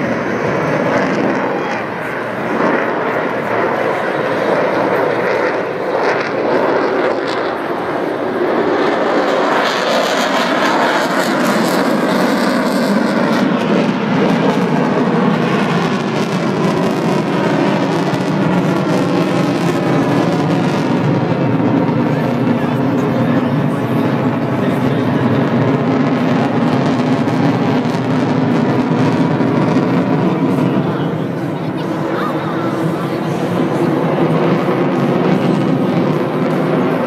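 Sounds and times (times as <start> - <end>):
jet fighter flying overhead: 0.0 - 37.0.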